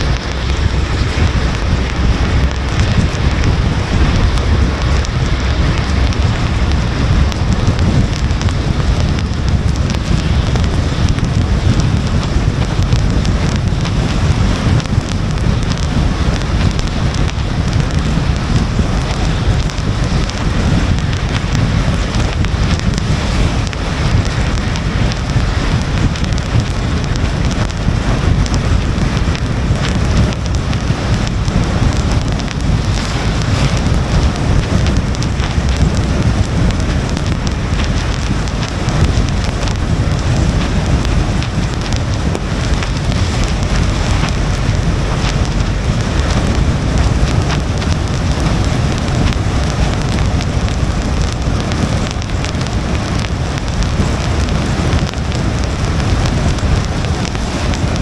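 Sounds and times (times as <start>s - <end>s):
rain on car windshield: 0.0s - 58.0s
tyre and wind noise: 0.0s - 58.0s.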